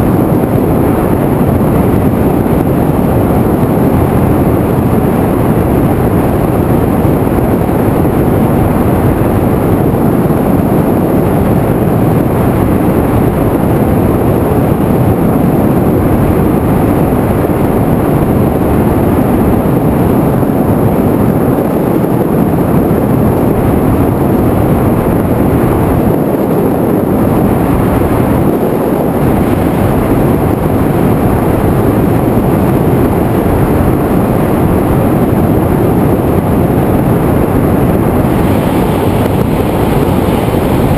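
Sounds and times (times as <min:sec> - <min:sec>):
propeller noise: 0:00.0 - 0:40.9
wind rushing: 0:00.0 - 0:40.9.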